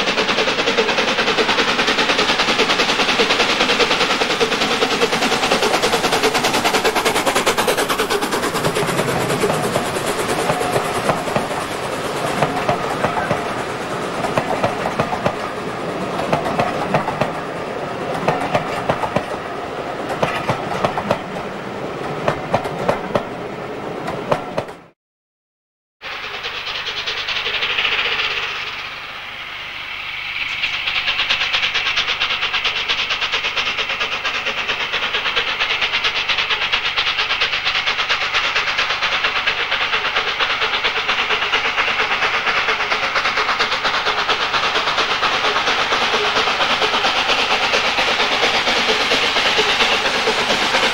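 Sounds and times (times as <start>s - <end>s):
train wheels clicking over rail joints: 0.0s - 23.3s, 24.0s - 24.9s, 26.1s - 50.9s
steam locomotive exhaust rushing: 0.0s - 24.9s, 26.0s - 50.9s.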